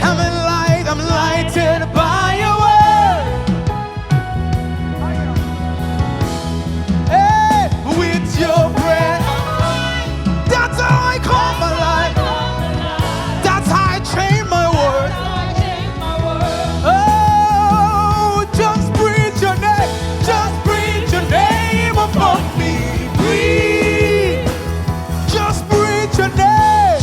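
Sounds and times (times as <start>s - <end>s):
person singing with vibrato: 0.0s - 6.0s, 6.8s - 27.0s
band accompaniment: 0.0s - 27.0s.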